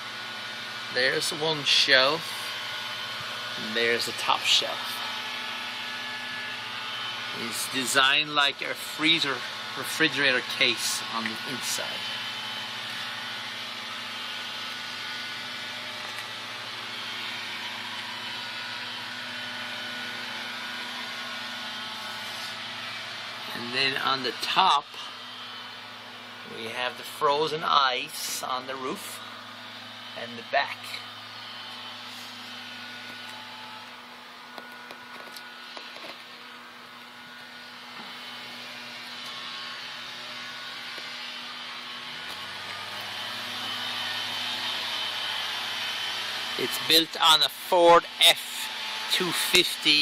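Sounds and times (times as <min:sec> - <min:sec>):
steady mechanical hum: 0:00.0 - 0:50.0.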